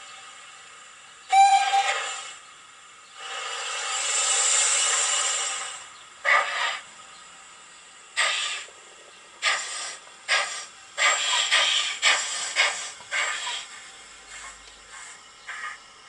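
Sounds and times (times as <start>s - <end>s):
steam hissing: 0.0s - 16.0s
steam locomotive exhaust chuffs: 0.0s - 16.0s.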